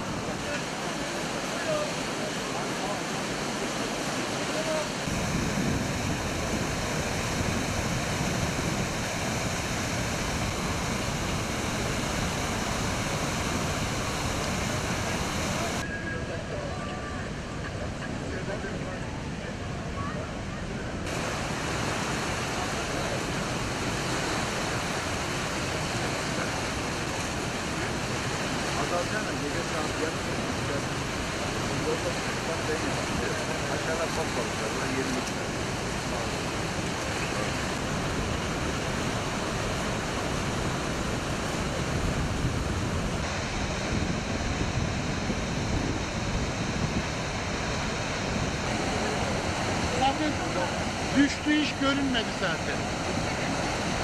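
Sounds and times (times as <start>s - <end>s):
waterfall rushing: 0.0s - 15.9s, 21.1s - 54.0s.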